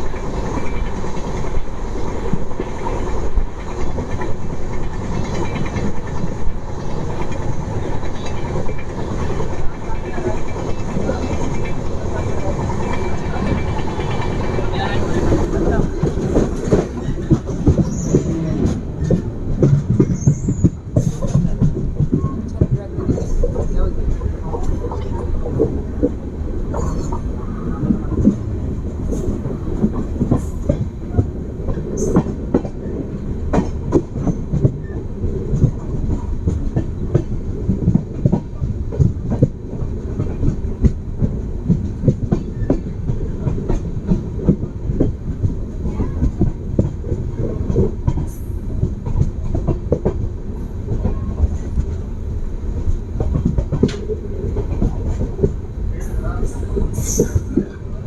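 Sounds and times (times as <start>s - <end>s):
train rumbling: 0.0s - 58.0s
wheels clattering over rail joints: 0.0s - 58.0s.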